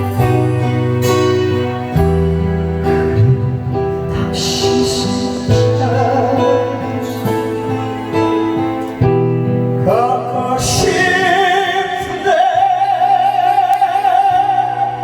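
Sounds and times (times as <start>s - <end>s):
ballad with backing music: 0.0s - 15.0s.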